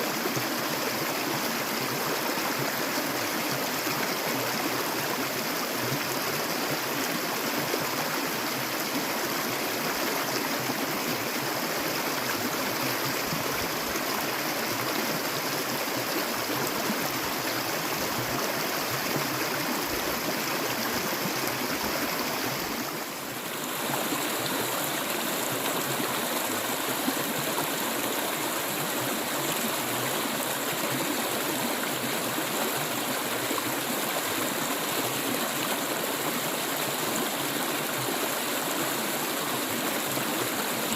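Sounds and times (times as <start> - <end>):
stream water babbling: 0.0 - 40.9.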